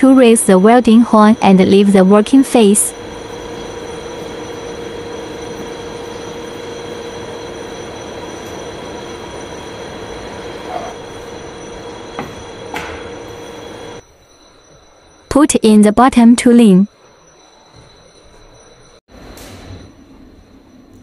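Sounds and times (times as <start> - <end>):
ultrasonic welding machine hum: 0.0 - 15.0, 17.8 - 21.0.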